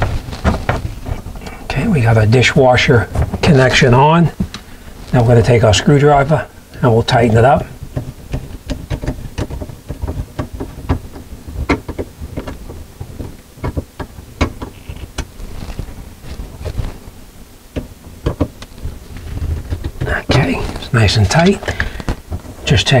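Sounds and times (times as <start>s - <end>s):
hand-handling rustle: 0.0s - 23.0s.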